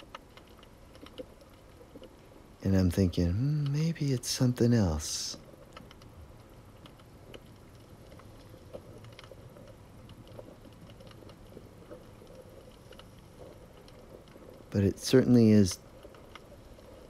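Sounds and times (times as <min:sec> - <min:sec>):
low underwater hiss: 0:00.0 - 0:17.0
small clicks: 0:00.0 - 0:17.0.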